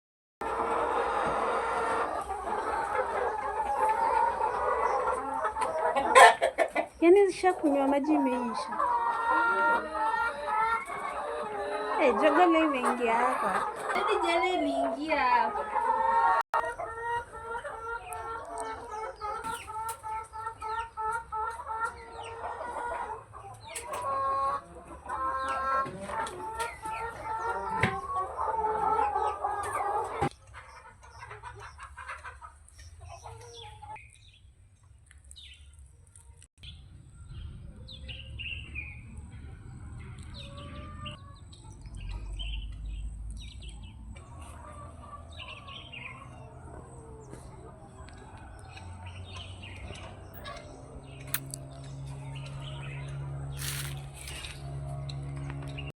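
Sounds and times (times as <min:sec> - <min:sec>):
chickens clucking and calling: 0:00.4 - 0:55.9.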